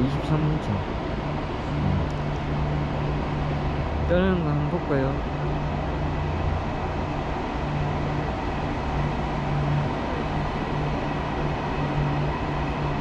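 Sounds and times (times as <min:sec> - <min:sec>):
train hum and rumble: 0:00.0 - 0:13.0.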